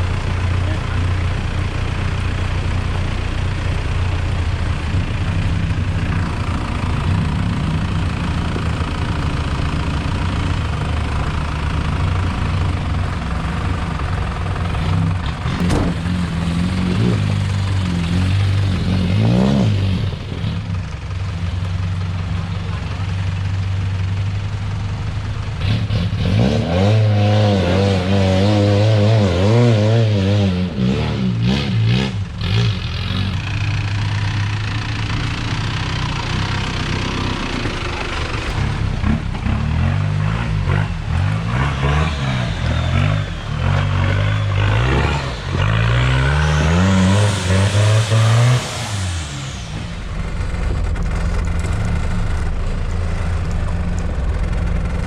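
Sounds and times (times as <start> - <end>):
truck engine revving: 0.0 - 21.4, 25.5 - 55.0.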